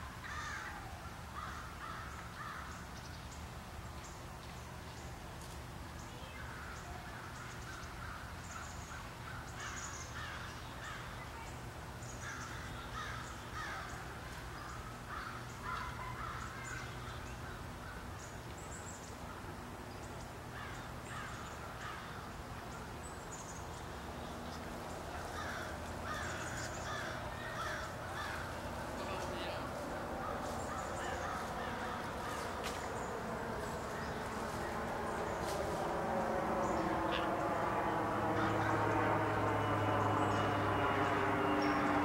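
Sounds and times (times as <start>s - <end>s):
birds harsh calls: 0.1s - 4.2s, 6.0s - 42.0s.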